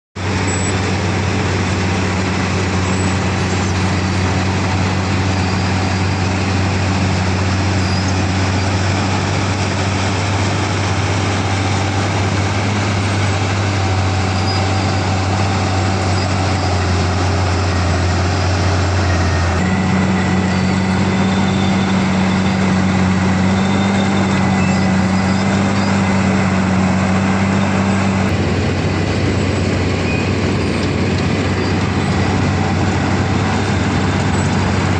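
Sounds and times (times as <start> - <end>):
milling machinery humming: 0.2 - 34.9.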